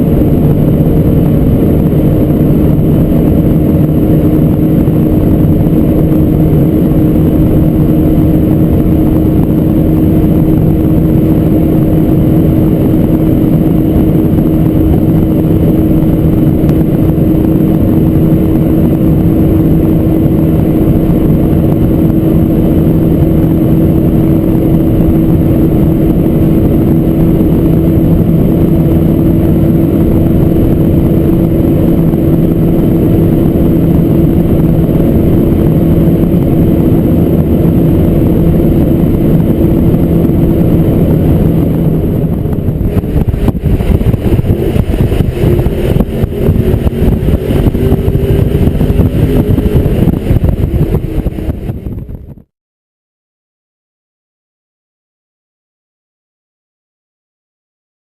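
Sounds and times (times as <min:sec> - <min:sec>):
car engine at high speed: 0:00.0 - 0:52.5
wind and road noise: 0:00.0 - 0:52.5.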